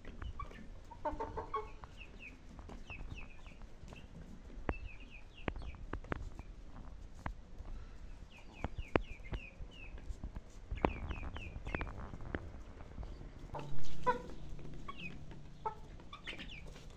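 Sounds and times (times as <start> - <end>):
chickens clucking: 0.0 - 16.9.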